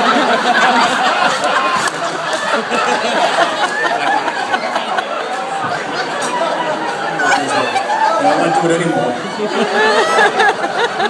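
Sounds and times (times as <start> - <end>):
audience laughing and chattering: 0.0 - 11.0.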